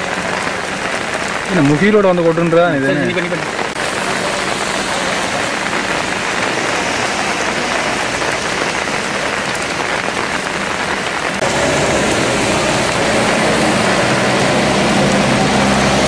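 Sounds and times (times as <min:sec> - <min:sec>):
rain on standing water: 0:00.0 - 0:16.0.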